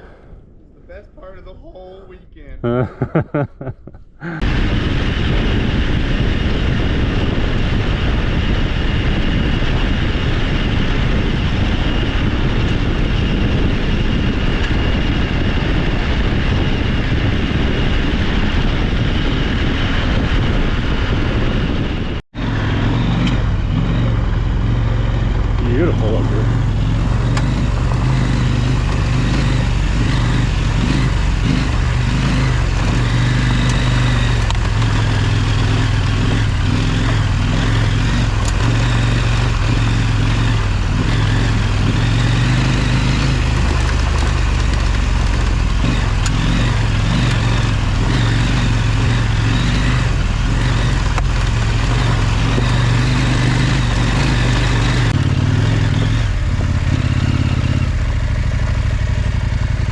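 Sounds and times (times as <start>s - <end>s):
motorcycle engine running: 4.2s - 59.9s.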